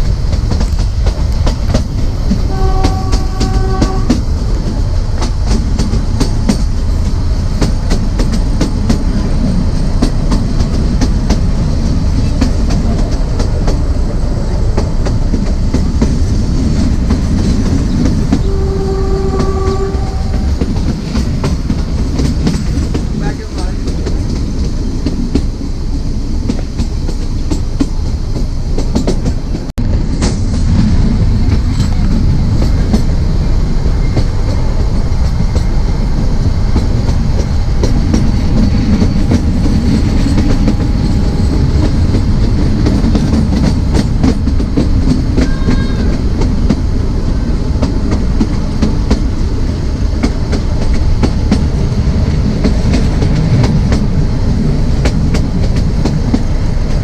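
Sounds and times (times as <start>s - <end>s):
clickety-clack over rail joints: 0.0s - 57.0s
train wheels rumbling: 0.0s - 57.0s.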